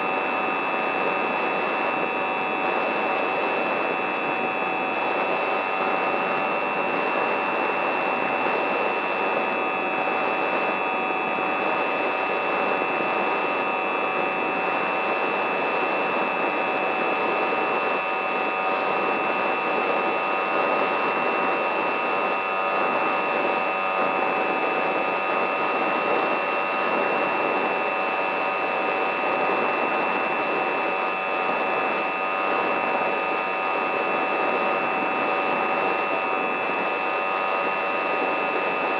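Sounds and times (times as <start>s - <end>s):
model aircraft motor whine: 0.1s - 38.9s.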